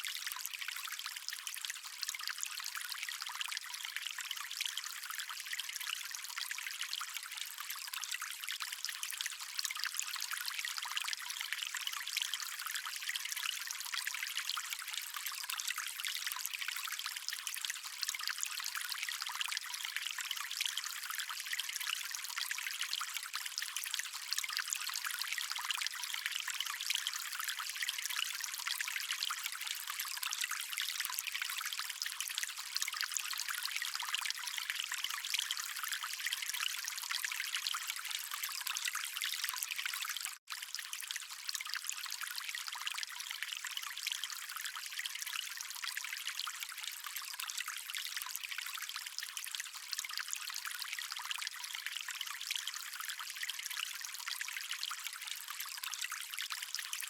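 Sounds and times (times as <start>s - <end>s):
stream of water trickling: 0.0s - 57.0s.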